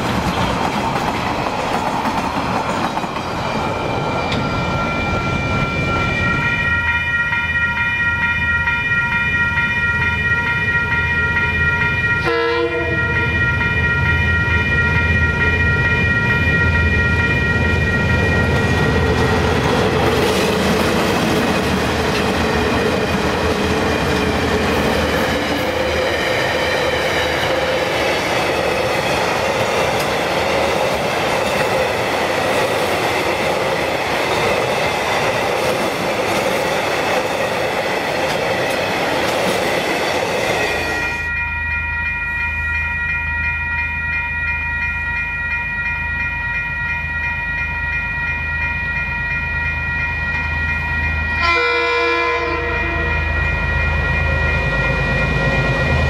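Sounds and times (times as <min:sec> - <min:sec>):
freight train rumble and clatter: 0:00.0 - 0:56.0
level crossing warning bells: 0:00.0 - 0:56.0.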